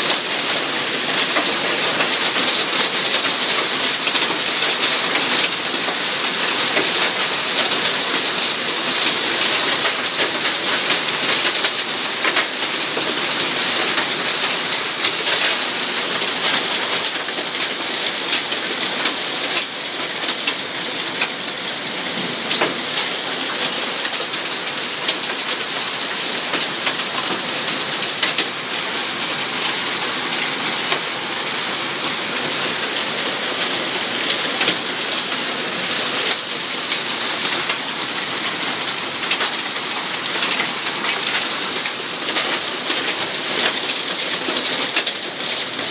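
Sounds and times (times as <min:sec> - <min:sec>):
hail and heavy rain hissing: 0:00.0 - 0:45.9
hailstones ticking on leaves: 0:00.0 - 0:45.9.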